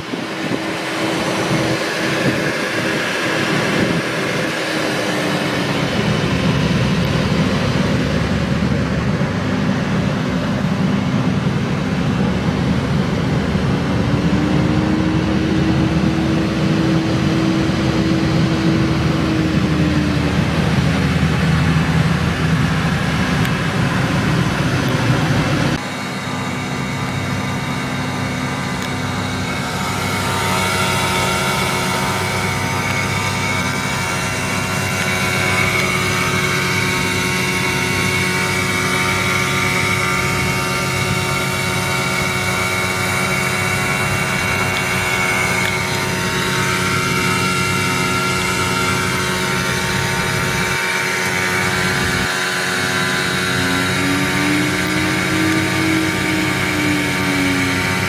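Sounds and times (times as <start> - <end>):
car engine idling: 0.0 - 58.0
high whine: 0.0 - 58.0.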